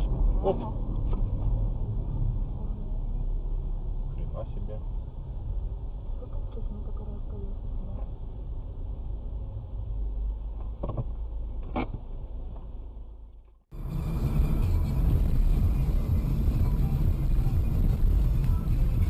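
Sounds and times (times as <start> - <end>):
car engine and road rumble: 0.0 - 19.0
vehicle rumble: 0.0 - 19.0.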